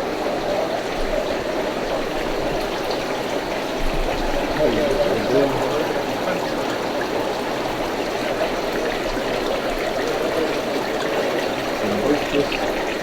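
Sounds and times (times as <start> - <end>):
water running and trickling: 0.0 - 13.0.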